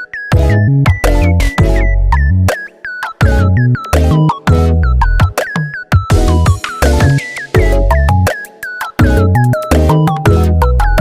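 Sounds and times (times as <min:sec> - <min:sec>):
electronic music with deep bass: 0:00.1 - 0:11.0.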